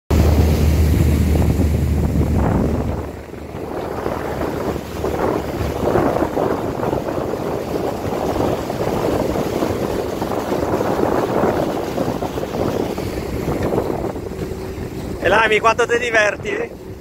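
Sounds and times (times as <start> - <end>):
water rushing off hull: 0.1 - 17.0
wind buffeting microphone: 0.1 - 17.0.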